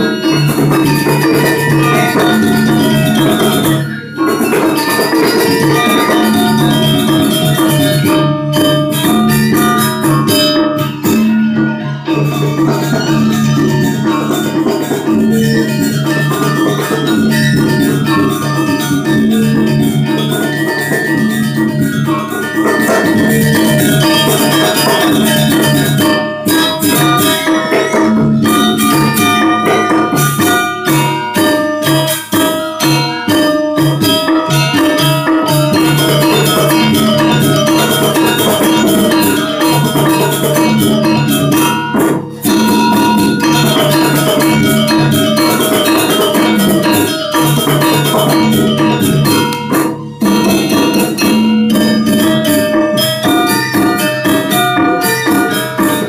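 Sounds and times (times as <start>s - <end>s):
drum: 0.0s - 56.0s
gongs: 0.0s - 56.0s
metallophones ringing: 0.0s - 56.0s.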